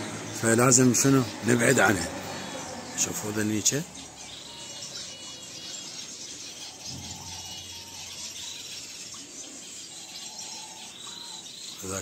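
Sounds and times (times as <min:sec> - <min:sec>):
finches twittering and trilling: 0:00.0 - 0:12.0.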